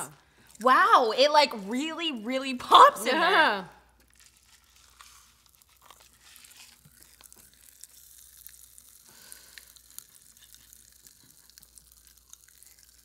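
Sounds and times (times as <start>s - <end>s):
popping candy crackling in mouth: 0.0s - 2.0s, 3.8s - 13.0s.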